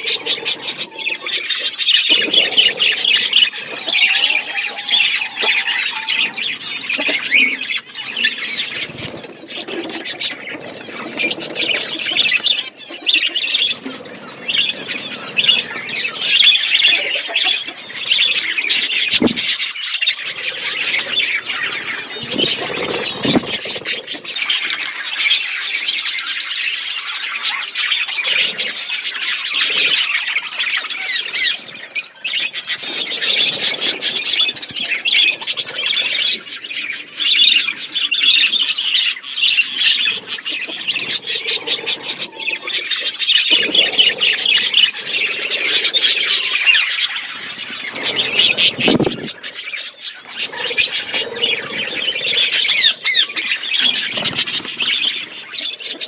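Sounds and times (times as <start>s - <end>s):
budgerigars chattering and chirping: 0.0s - 56.0s.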